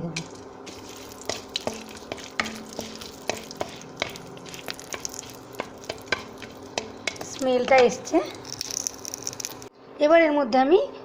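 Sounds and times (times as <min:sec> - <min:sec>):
spices sizzling in hot oil: 0:00.0 - 0:09.7
sharp popping: 0:00.2 - 0:09.7.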